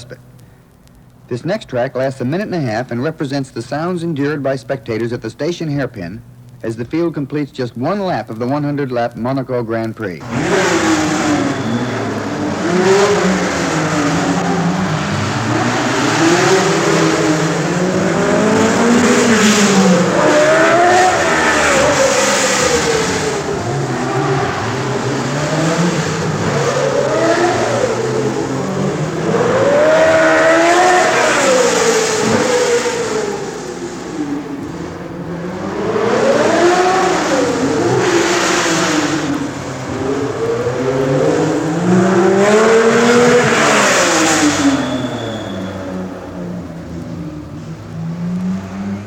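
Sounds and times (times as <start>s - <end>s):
racing car engines: 0.0s - 49.0s.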